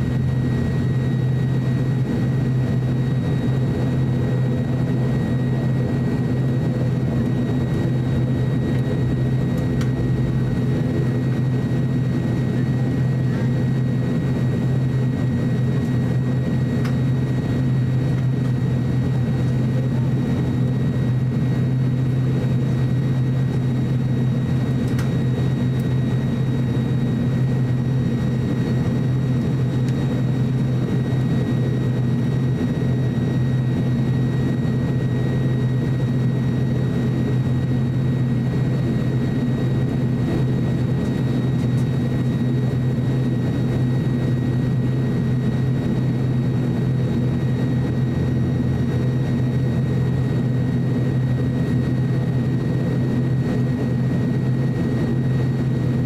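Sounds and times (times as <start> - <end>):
high engine whine: 0.0 - 56.0
turboprop engine drone: 0.0 - 56.0.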